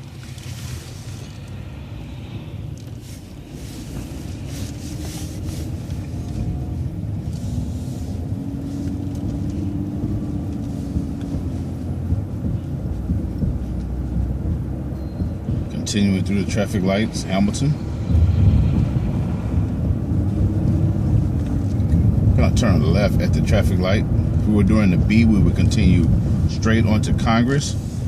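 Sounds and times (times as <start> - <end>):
bus engine rumble: 0.0 - 28.0
drivetrain whine: 0.0 - 28.0.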